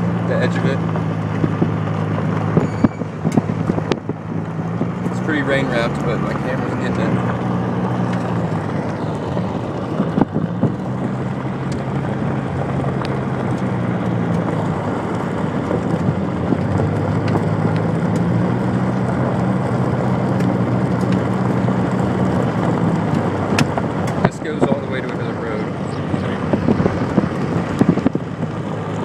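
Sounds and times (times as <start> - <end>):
engine and road drone: 0.0 - 29.0.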